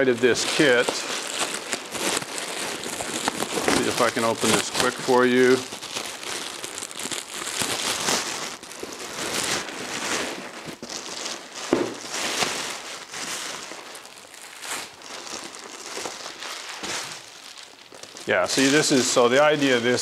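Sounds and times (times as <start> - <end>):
plastic and foil crinkling: 0.0 - 20.0.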